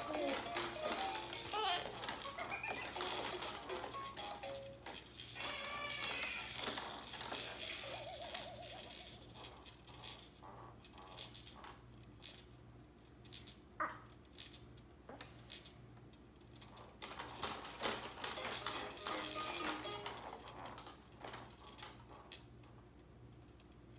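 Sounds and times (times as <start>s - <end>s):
plastic toys rattling: 0.0s - 14.8s, 15.4s - 23.8s.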